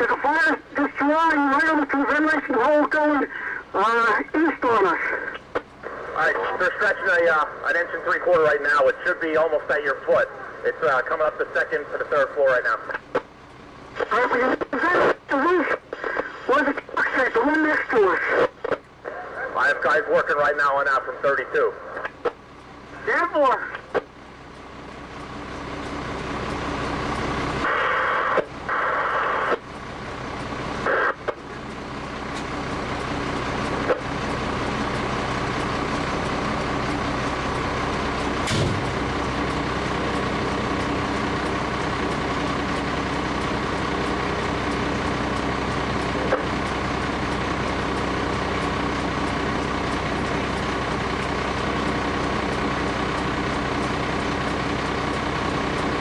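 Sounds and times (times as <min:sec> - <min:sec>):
fire truck engine idling: 0:00.0 - 0:56.0.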